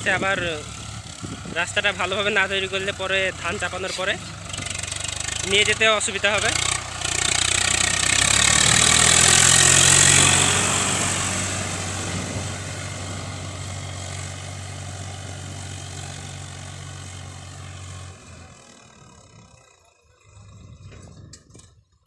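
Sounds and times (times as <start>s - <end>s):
tractor diesel engine running: 0.0s - 21.5s.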